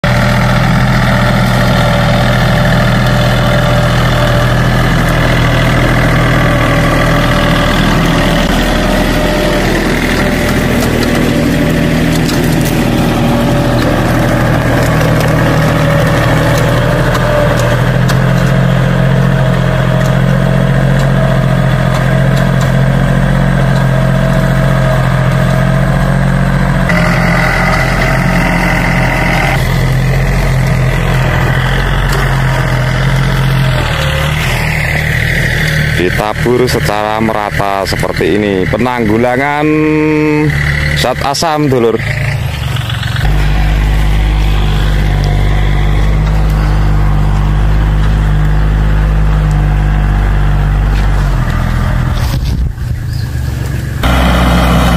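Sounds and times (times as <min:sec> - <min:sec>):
tractor diesel engine under load: 0:00.0 - 0:54.9.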